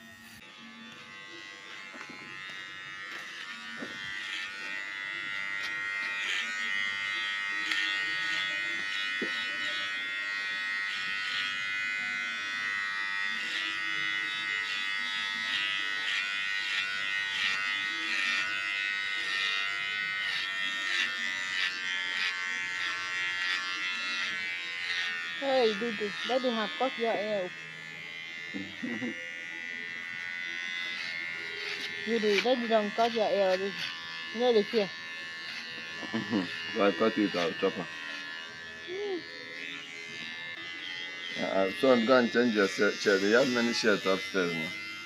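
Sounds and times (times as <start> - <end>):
electric hair clipper buzzing: 0.0 - 45.0.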